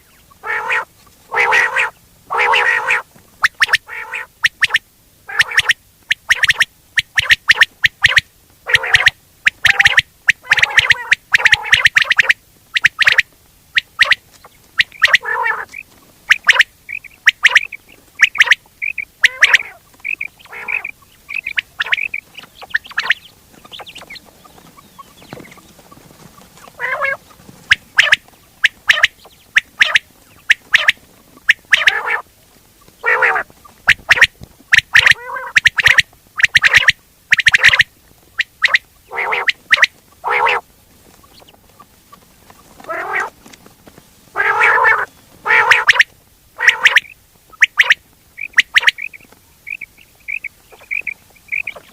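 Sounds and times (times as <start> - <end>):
quail calls: 0.0 - 43.5, 44.3 - 51.9.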